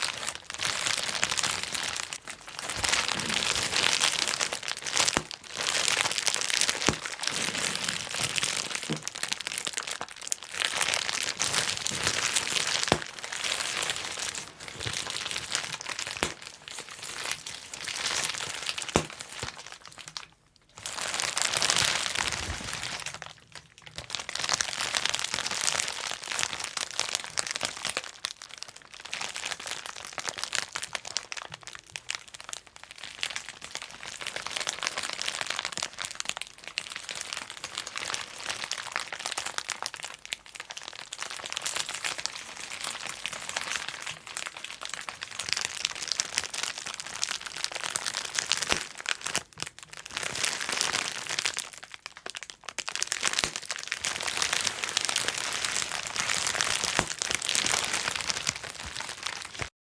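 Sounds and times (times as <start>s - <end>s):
bubble wrap crinkling and popping: 0.0s - 59.7s.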